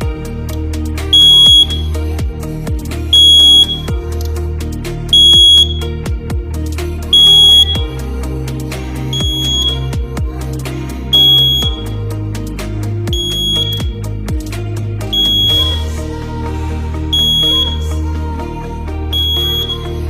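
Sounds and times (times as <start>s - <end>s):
music with low beat: 0.0s - 20.0s.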